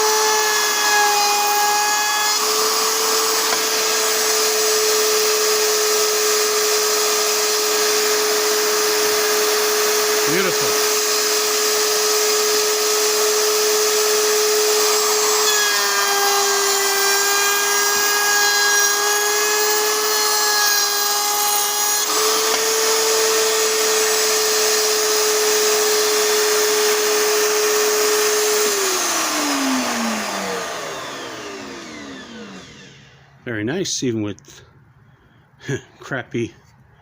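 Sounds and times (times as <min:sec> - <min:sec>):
router motor whining: 0:00.0 - 0:33.4
router bit cutting wood: 0:00.0 - 0:33.5.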